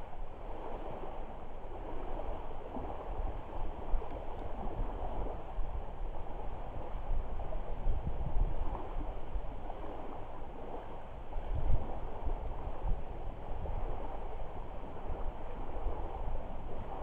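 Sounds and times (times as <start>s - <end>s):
lake water lapping: 0.0s - 7.8s, 8.5s - 17.0s
wind buffeting microphone: 0.0s - 17.0s.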